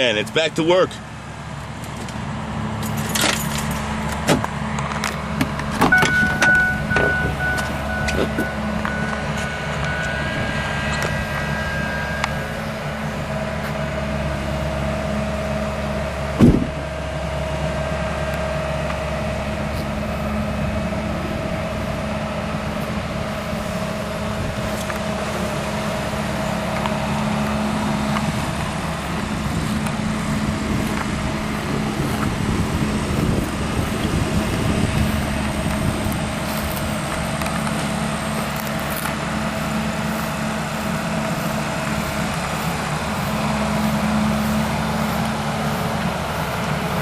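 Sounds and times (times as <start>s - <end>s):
diesel machinery running: 0.0s - 47.0s
high-pitched whine: 4.8s - 17.0s, 17.7s - 47.0s.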